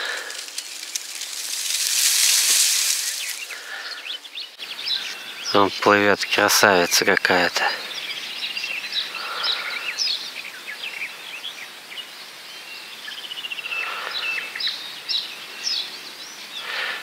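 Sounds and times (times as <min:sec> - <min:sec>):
faint steady hiss: 0:00.0 - 0:17.0
songbirds singing and chirping: 0:00.0 - 0:17.0.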